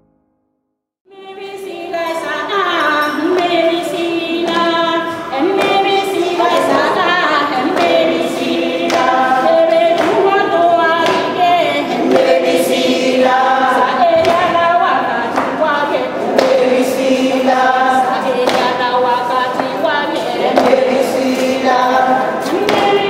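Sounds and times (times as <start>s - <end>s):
women singing together: 1.1s - 23.0s.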